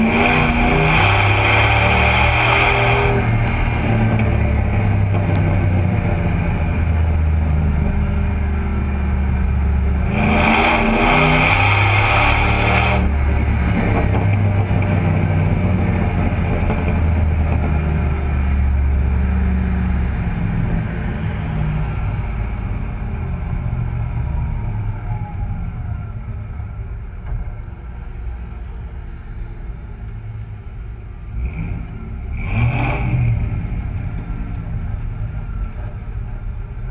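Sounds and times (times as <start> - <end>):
rushing noise: 0.0 - 29.6
truck exhaust drone: 0.0 - 36.9.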